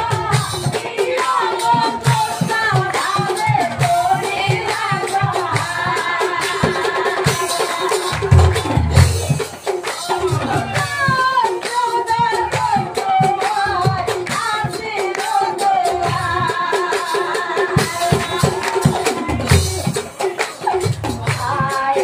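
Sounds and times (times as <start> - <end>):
woman singing: 0.0 - 8.9, 10.0 - 22.0
drums beating: 0.0 - 22.0.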